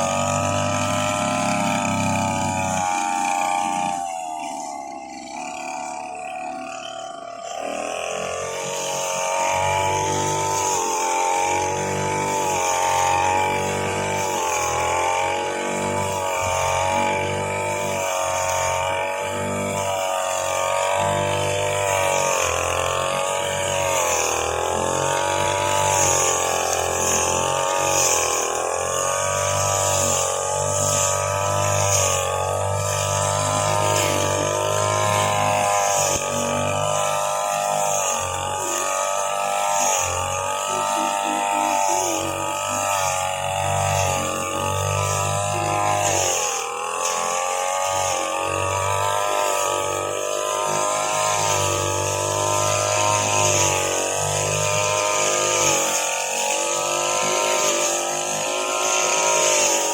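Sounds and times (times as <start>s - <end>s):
grass-cutting machine running: 0.0s - 59.9s.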